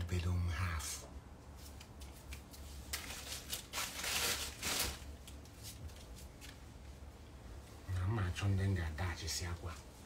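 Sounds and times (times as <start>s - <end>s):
clothes rustling and crinkling: 1.3s - 10.0s.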